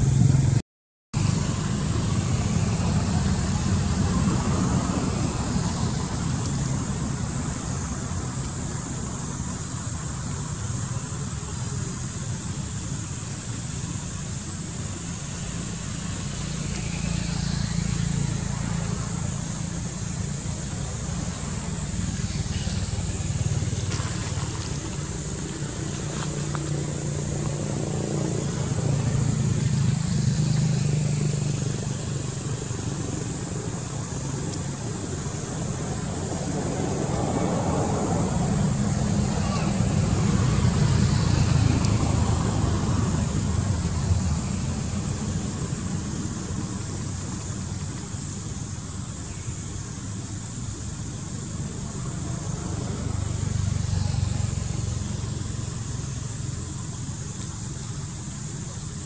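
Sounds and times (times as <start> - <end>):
low outdoor background rumble: 0.0 - 0.6, 1.2 - 59.0.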